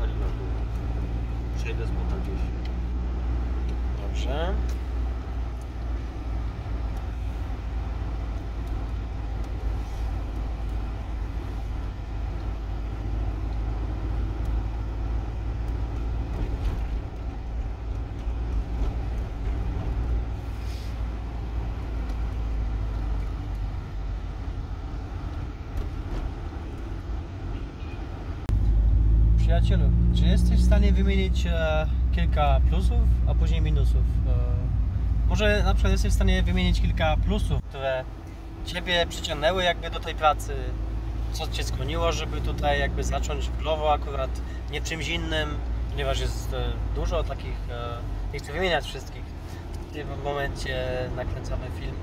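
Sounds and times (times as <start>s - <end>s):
vehicle rumble and road noise: 0.0s - 52.0s.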